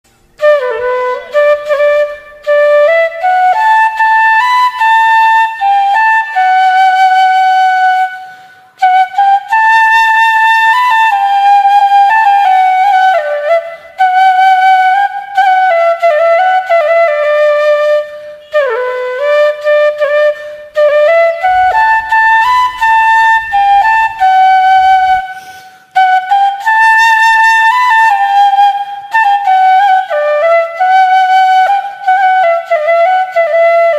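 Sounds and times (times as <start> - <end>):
solo flute melody: 0.1 - 33.9.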